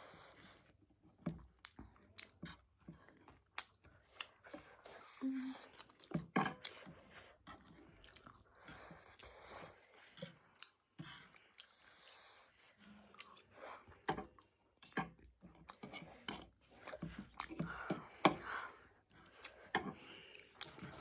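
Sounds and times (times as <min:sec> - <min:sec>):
person chewing noodles: 0:01.2 - 0:14.6, 0:15.4 - 0:21.0.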